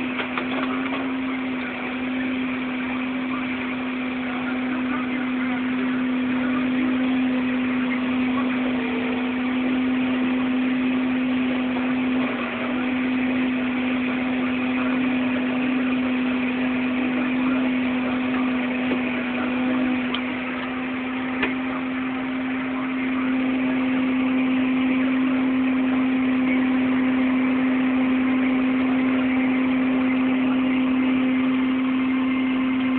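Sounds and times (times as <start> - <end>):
harvest machinery engine drone: 0.0 - 32.9.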